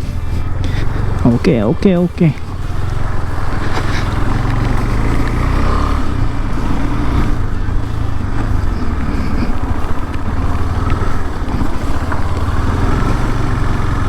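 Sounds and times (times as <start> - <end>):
motorcycle engine throbbing: 0.0 - 14.0.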